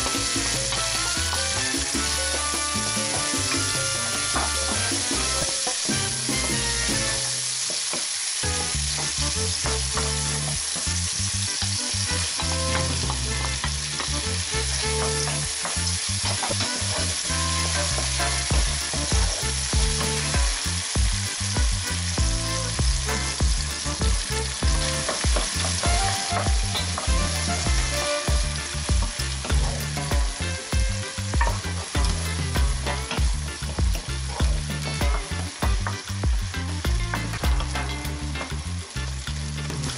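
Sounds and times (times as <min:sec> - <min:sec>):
vegetables sizzling in oil: 0:00.0 - 0:39.9.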